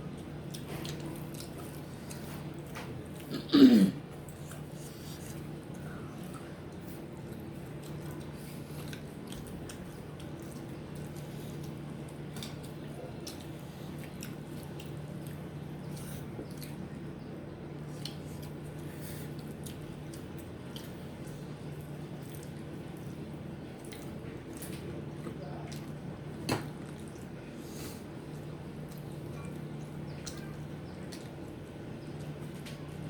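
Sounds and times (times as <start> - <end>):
people chewing and eating: 0.0 - 33.0
steady low hum: 0.0 - 33.0.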